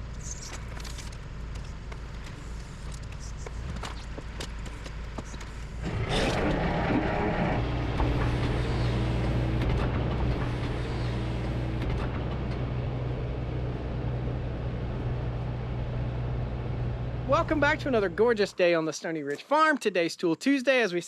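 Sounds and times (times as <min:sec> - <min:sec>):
tractor engine humming: 0:00.0 - 0:19.0.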